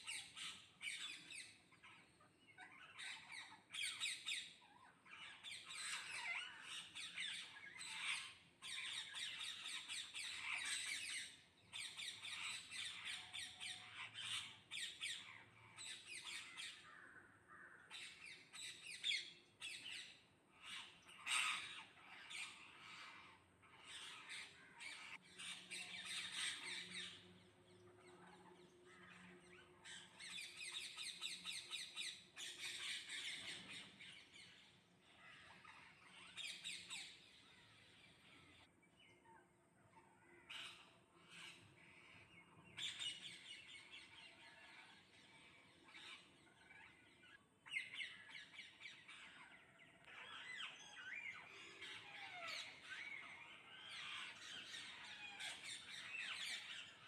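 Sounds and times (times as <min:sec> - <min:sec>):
parrots squawking and chattering: 0:00.0 - 0:57.0.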